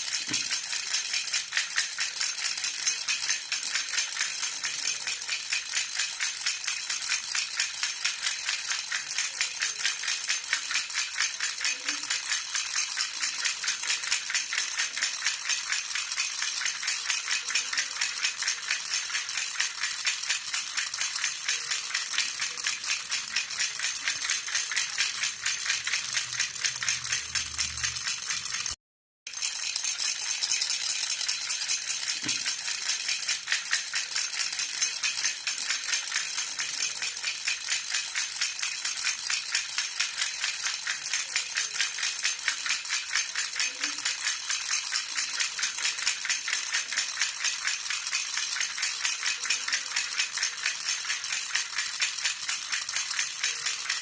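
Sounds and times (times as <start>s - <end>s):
baby rattle shaken: 0.0s - 54.0s.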